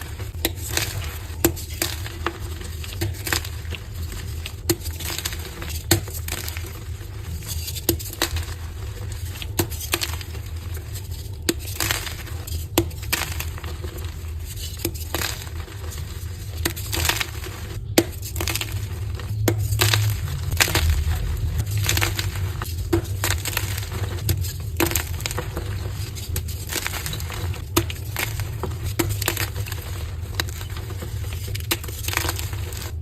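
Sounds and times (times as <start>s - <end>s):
chalk being crushed: 0.0s - 33.0s
low steady hum: 0.0s - 33.0s.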